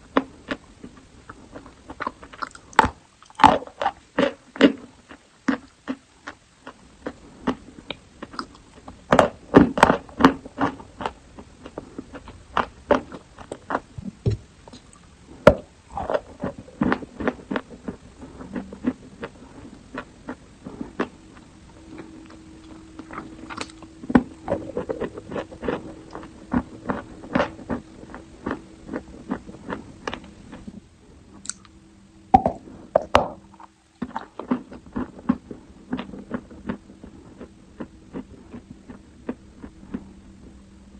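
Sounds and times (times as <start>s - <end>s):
faint steady hum: 0.0s - 40.9s
crunching and chewing chalk: 0.1s - 14.0s, 14.7s - 31.7s, 32.4s - 40.6s.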